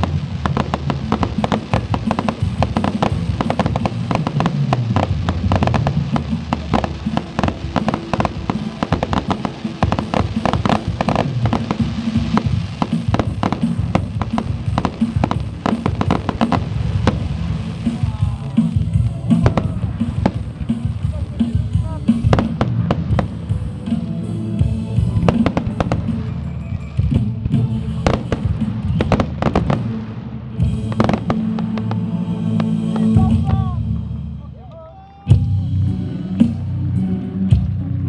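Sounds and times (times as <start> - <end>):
fireworks bangs and crackles: 0.0 - 33.8.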